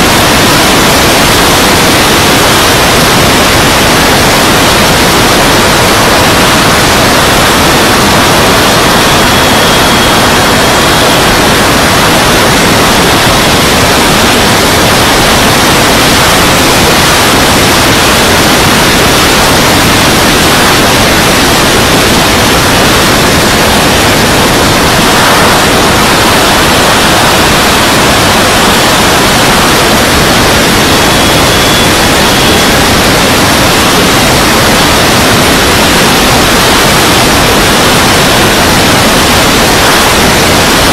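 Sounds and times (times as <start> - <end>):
airflow rushing over microphone: 0.0 - 40.9
faint high whine: 0.0 - 40.9
model jet engine: 0.0 - 40.9.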